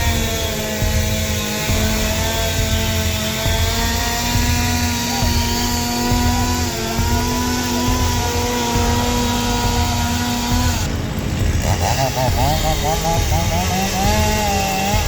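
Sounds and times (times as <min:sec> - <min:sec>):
engine drone: 0:00.0 - 0:15.0
low traffic rumble: 0:00.0 - 0:15.0.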